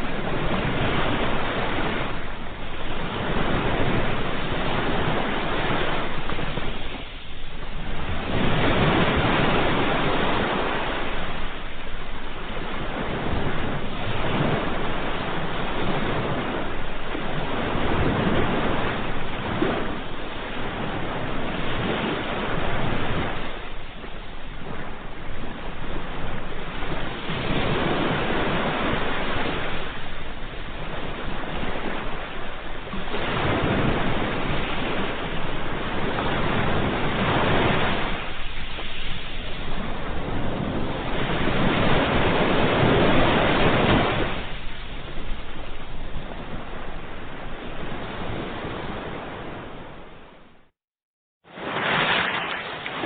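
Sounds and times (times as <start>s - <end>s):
ocean waves breaking on shore: 0.0s - 50.7s, 51.4s - 53.0s.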